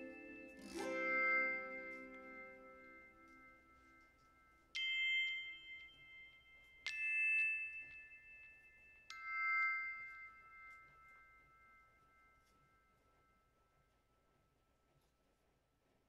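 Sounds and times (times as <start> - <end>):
bell-like struck notes: 0.0 - 14.3.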